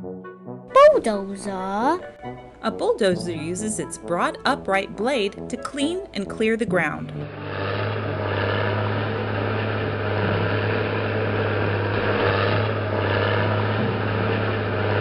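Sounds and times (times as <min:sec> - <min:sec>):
bulldozer diesel engine running: 0:02.8 - 0:15.0.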